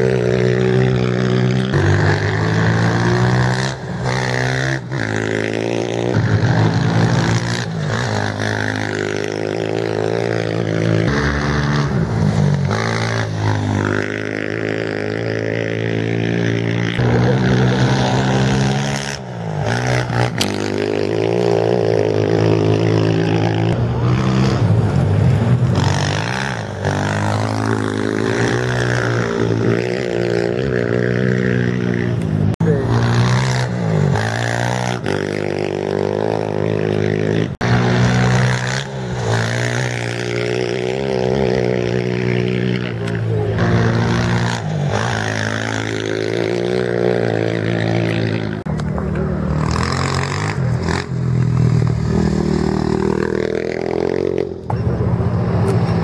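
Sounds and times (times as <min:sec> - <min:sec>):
motorcycles revving and passing: 0:00.0 - 0:56.0.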